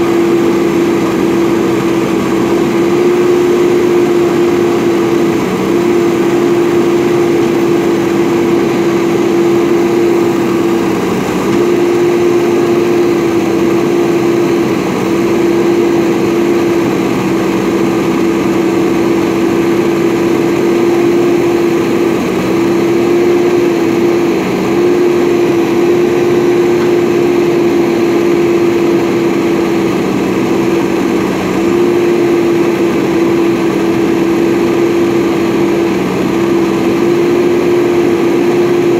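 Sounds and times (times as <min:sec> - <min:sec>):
diesel engine running: 0:00.0 - 0:38.9
steady whine: 0:00.0 - 0:38.9.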